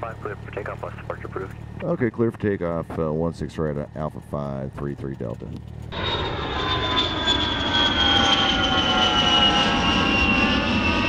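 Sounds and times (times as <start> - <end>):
aircraft engine whine: 0.0 - 11.0.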